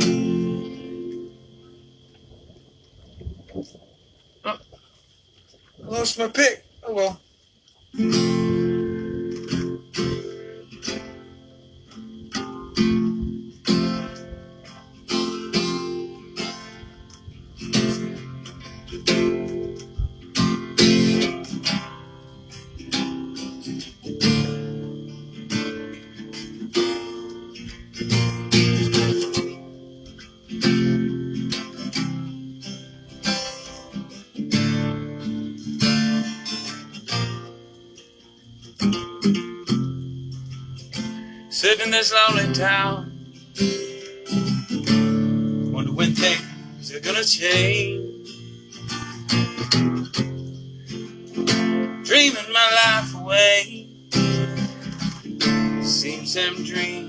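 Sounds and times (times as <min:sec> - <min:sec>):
acoustic guitar strumming: 0:00.0 - 0:03.8, 0:07.9 - 0:57.0.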